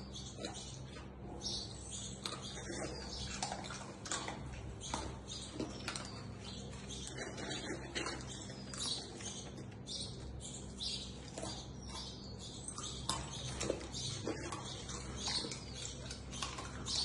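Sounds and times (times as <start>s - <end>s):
dog crunching and chewing: 0.0s - 17.0s.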